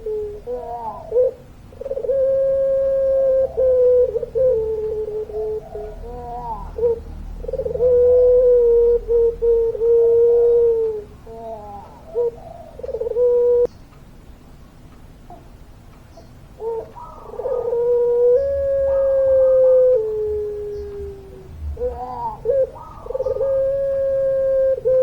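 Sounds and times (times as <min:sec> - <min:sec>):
dove cooing: 0:00.0 - 0:13.7, 0:16.6 - 0:25.0.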